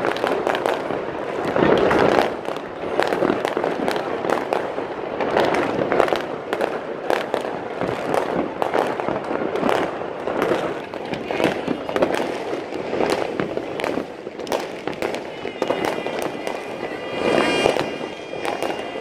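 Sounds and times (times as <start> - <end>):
fireworks and firecrackers popping: 0.0 - 19.0.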